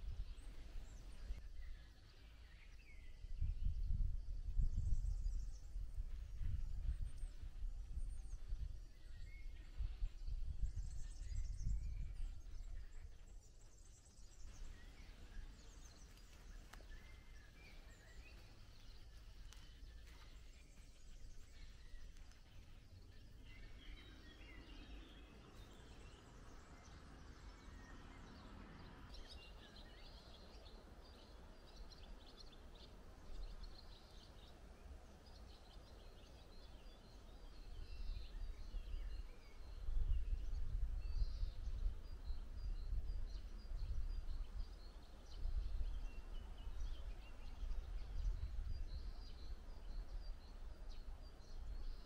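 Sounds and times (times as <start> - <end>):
small birds chirping: 0.0 - 52.0
wind rumbling on microphone: 0.0 - 52.0.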